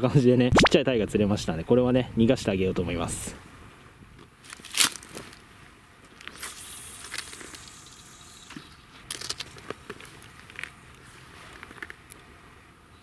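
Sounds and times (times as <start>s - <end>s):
steady hiss: 1.8s - 12.7s.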